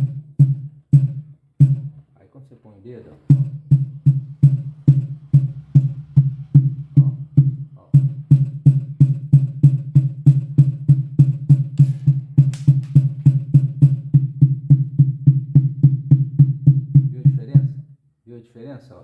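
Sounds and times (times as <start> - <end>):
bass drum beat from loudspeaker: 0.0 - 2.1, 3.3 - 17.9.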